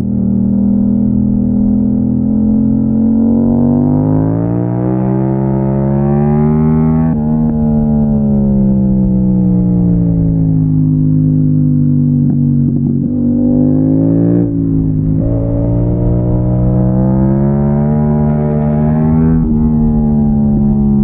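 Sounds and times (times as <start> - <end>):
low wind rumble: 0.0 - 21.0
motorcycle engine accelerating: 0.0 - 21.0.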